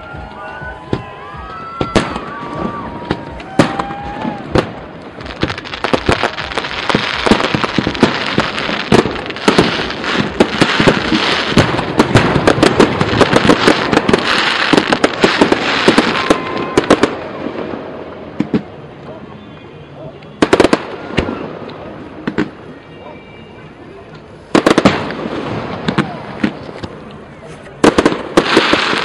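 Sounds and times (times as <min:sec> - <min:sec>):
fireworks hissing crackle: 0:00.0 - 0:19.0, 0:20.3 - 0:29.0
fireworks bangs and pops: 0:00.0 - 0:19.4, 0:20.2 - 0:22.8, 0:24.1 - 0:29.0.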